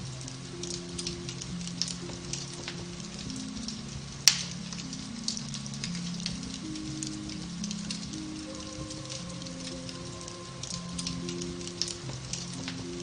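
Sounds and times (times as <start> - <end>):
soft slow piano music: 0.0 - 13.0
wood fire crackling: 0.0 - 13.0.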